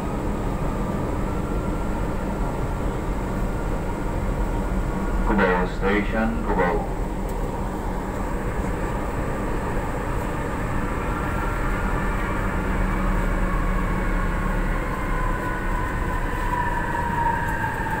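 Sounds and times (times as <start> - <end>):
train interior rumble and hum: 0.0 - 18.0.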